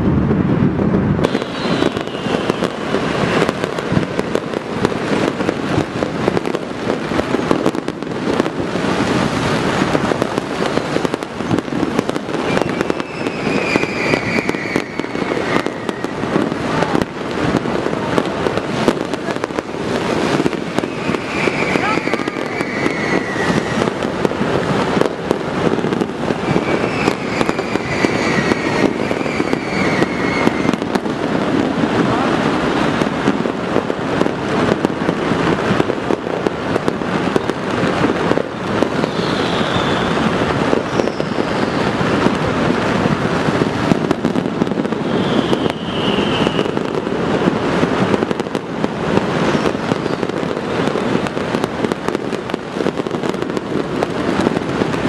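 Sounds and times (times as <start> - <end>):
fireworks bangs: 0.0 - 55.0
fireworks crackling and popping: 0.0 - 55.0
high fireworks whistles: 0.0 - 55.0.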